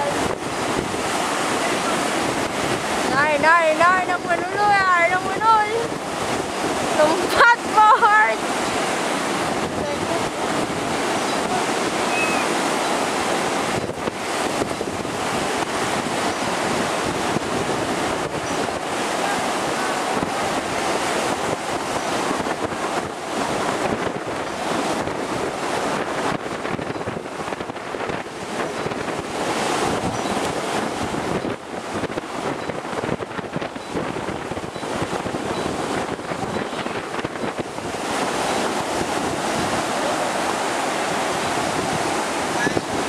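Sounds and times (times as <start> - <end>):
storm surf breaking: 0.0 - 43.0
wind across microphone: 0.0 - 43.0.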